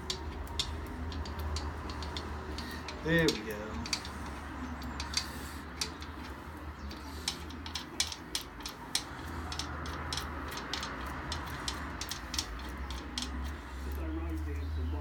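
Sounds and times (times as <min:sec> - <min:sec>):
metallic clicks of bolts: 0:00.0 - 0:13.7.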